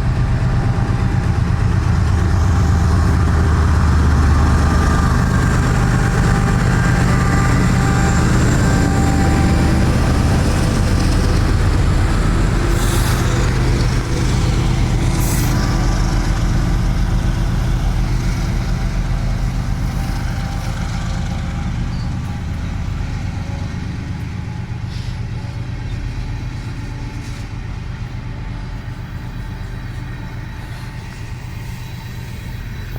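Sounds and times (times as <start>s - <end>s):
diesel locomotive engine drone: 0.0s - 32.9s.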